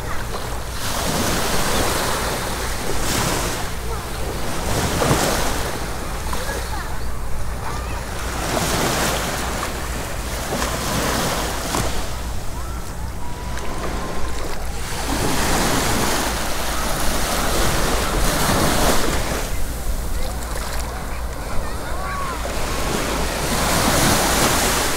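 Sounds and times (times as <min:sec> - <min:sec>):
sea waves washing onto beach: 0:00.0 - 0:24.9.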